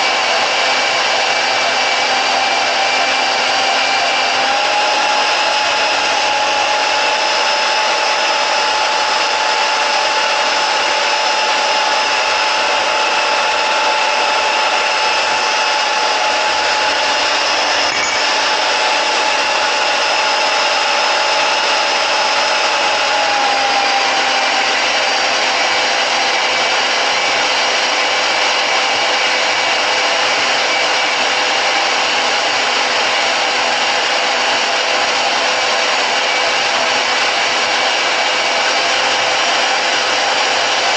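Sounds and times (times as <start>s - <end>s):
band saw cutting metal: 0.0s - 40.9s.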